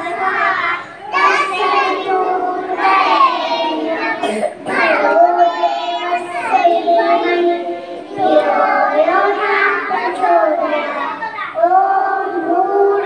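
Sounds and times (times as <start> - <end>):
child singing into microphone: 0.0 - 13.0.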